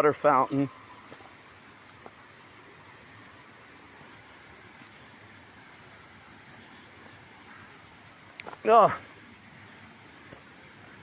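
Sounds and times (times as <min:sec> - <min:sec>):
insect droning: 0:00.0 - 0:11.0.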